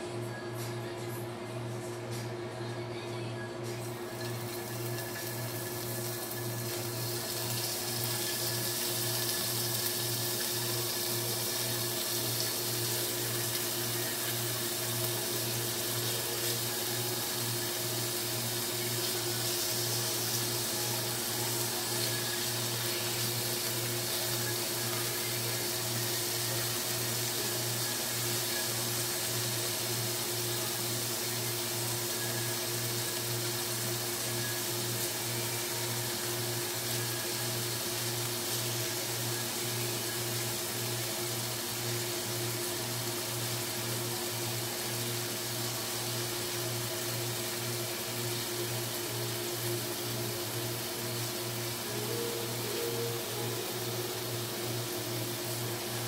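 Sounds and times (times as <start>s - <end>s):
meat sizzling in hot oil: 3.9s - 56.0s.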